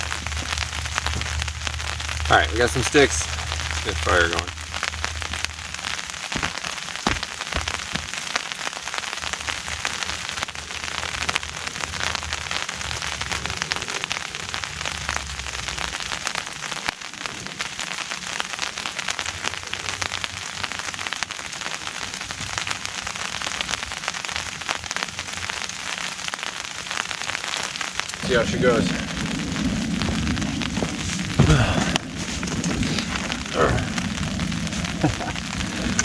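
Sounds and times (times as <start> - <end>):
rain pattering: 0.0 - 36.0.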